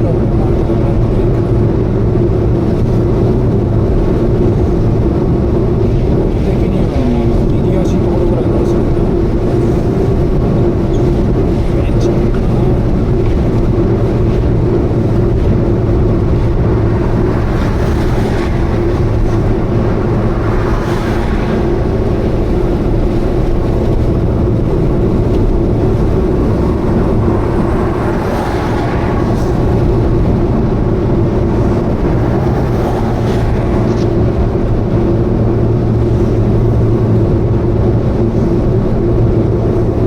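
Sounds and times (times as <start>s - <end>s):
car engine droning hum: 0.0s - 40.0s
road noise: 0.0s - 40.0s.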